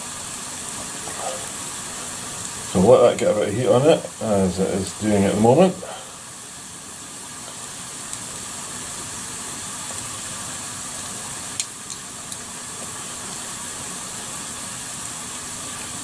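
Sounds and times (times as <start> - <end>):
mushrooms sizzling in saucepan: 0.0 - 16.0
sharp frying crackles: 0.0 - 16.0.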